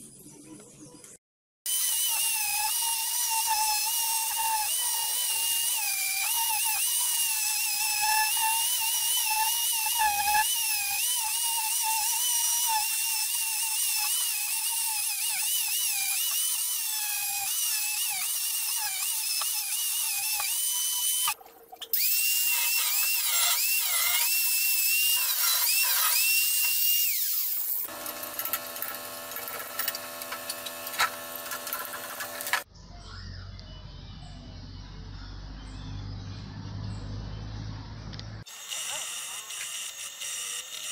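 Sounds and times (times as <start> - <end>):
wire brush tool whining on metal: 1.7 - 32.7, 38.5 - 40.9.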